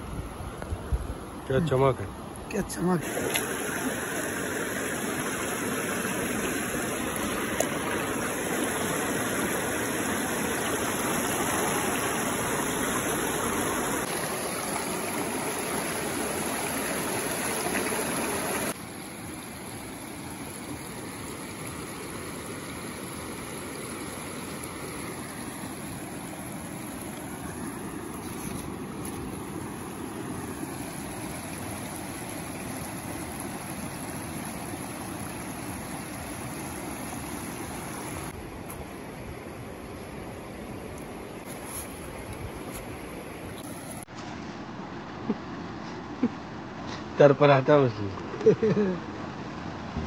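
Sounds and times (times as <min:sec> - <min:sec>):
river water rushing over stones: 0:02.5 - 0:44.1.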